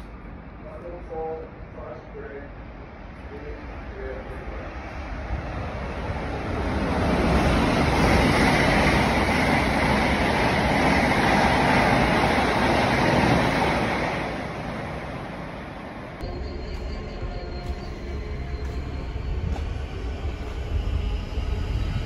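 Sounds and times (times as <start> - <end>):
train rushing past: 0.0 - 22.0.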